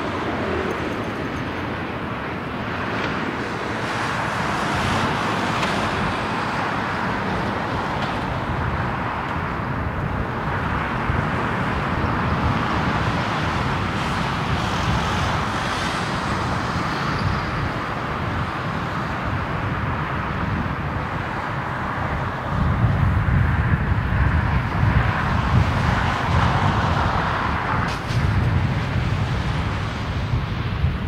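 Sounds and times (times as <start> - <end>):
jet airliner takeoff roar: 0.0 - 31.0.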